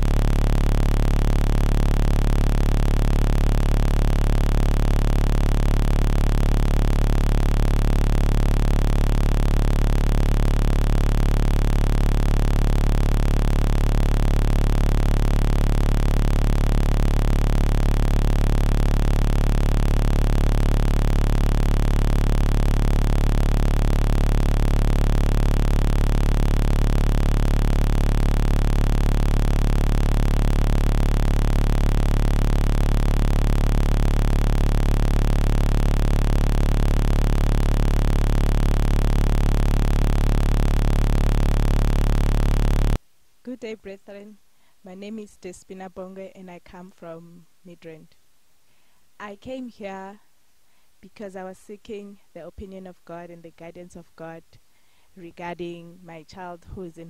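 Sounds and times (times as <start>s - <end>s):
electronic hum with hiss: 0.0s - 57.0s.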